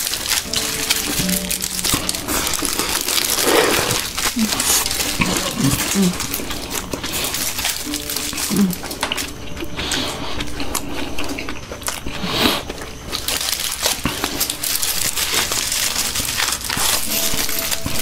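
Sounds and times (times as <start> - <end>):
biting and chewing: 0.0 - 18.0
foil wrappers crinkling: 0.0 - 18.0.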